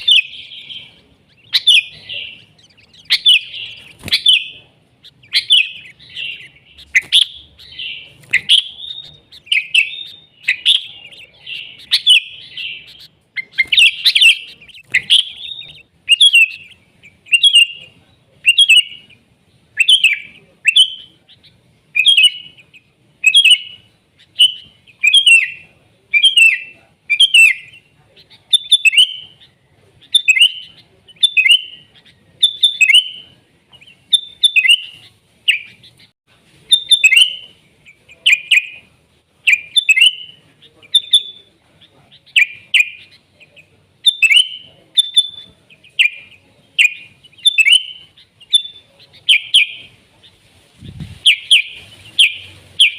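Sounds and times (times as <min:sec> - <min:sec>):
bulbul calling: 0:00.0 - 0:36.1, 0:36.7 - 0:52.9.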